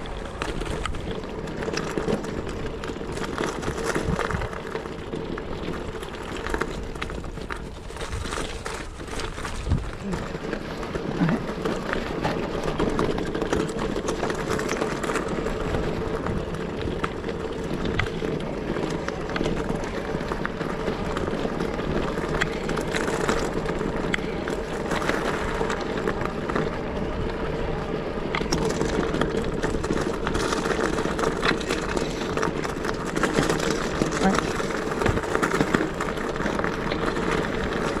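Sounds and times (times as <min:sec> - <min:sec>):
bicycle clicks and rattles: 0:00.0 - 0:38.0
road and wind noise: 0:00.0 - 0:38.0.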